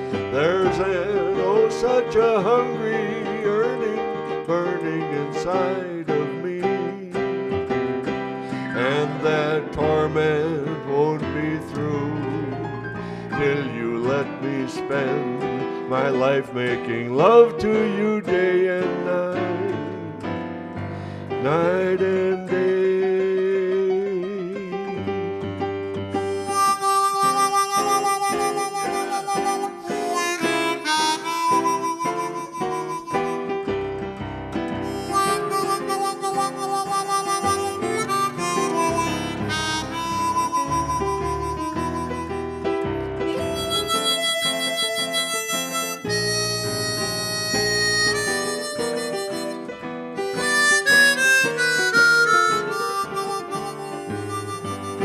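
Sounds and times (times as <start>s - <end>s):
harmonica playing slow melody: 0.0s - 55.0s
keyboard chords: 0.0s - 55.0s.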